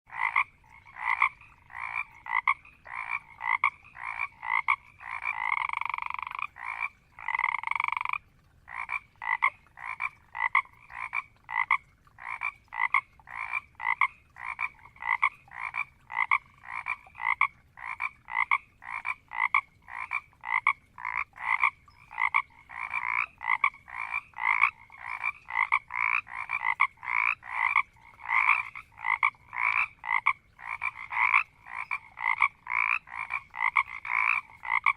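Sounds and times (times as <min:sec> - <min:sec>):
frogs croaking: 0:00.1 - 0:34.9.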